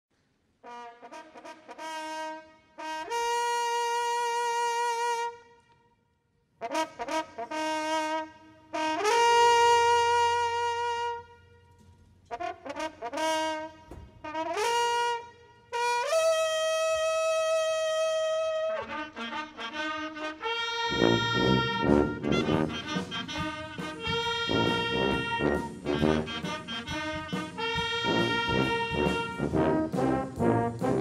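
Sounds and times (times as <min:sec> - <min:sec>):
brass band playing fanfare: 0:00.6 - 0:05.4, 0:06.6 - 0:11.4, 0:12.3 - 0:31.0.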